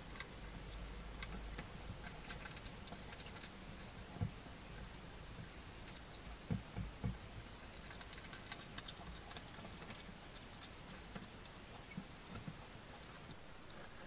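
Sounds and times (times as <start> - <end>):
hedgehog crunching food: 0.0 - 14.0.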